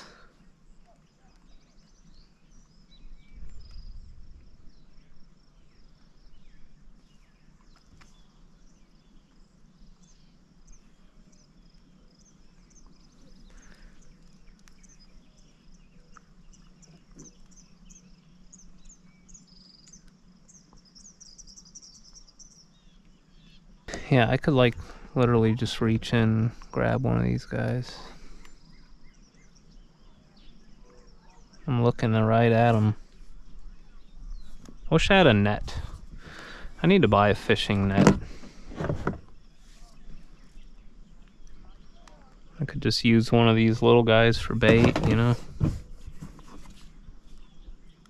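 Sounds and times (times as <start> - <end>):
high insect drone: 0.1 - 45.6.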